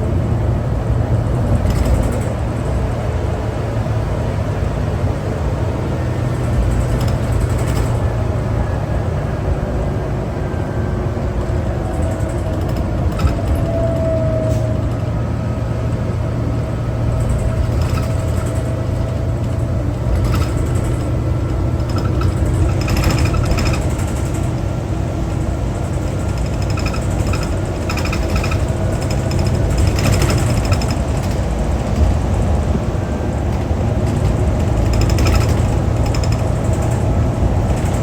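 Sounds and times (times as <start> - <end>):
bus diesel engine rumble: 0.0 - 38.0
light rattles and clicks: 1.4 - 3.6, 5.6 - 8.6, 10.5 - 38.0.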